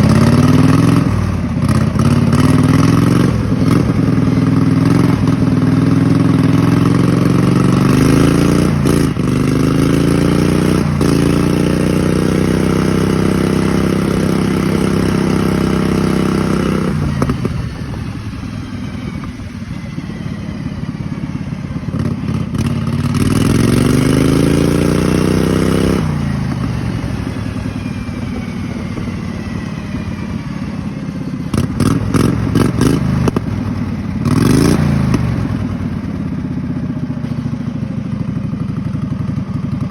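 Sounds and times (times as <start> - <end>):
lawn mower engine revving: 0.0 - 39.9.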